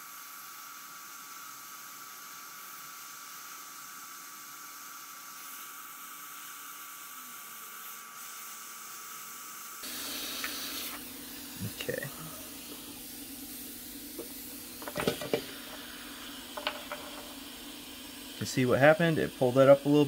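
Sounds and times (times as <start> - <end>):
hot air station hissing with whine: 0.0 - 20.0.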